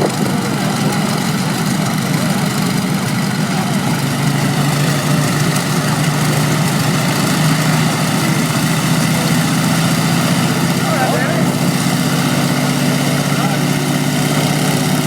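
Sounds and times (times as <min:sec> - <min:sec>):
aeroplane engine humming: 0:00.0 - 0:15.0.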